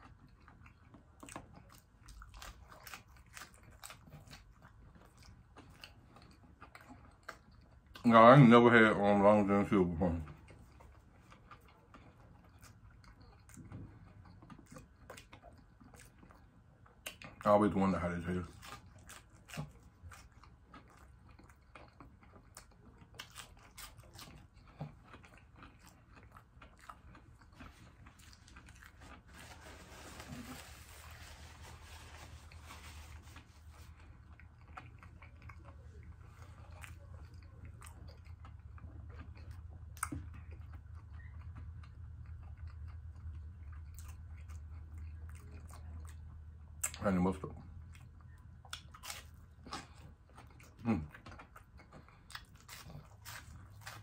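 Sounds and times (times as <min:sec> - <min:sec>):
chewing crispy food: 0:00.0 - 0:54.0.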